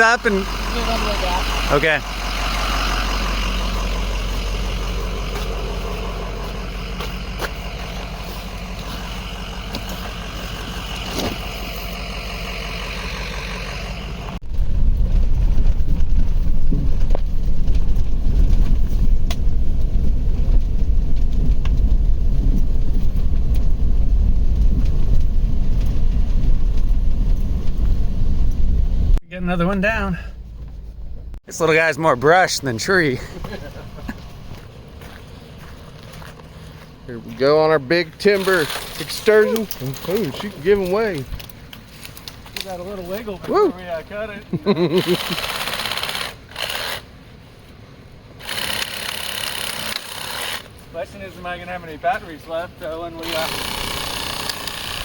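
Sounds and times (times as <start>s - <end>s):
vehicle engine humming: 0.0s - 55.0s
vehicle rumbling under way: 0.0s - 55.0s.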